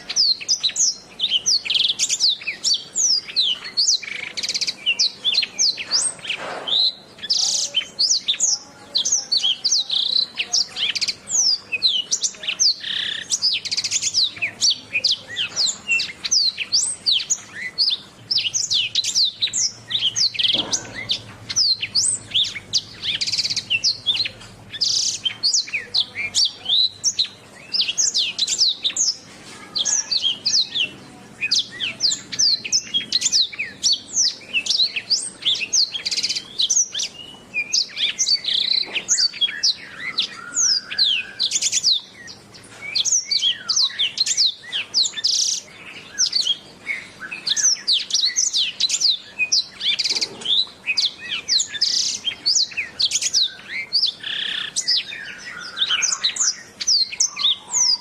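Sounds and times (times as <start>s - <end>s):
canary singing chirps and trills: 0.0s - 58.0s.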